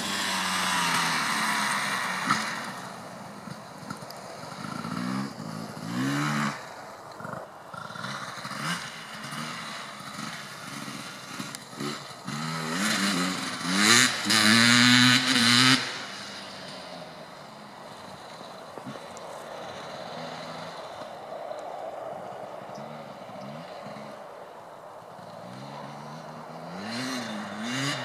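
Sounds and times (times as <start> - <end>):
dirt bike engine revving: 0.0 - 21.0, 25.2 - 28.0.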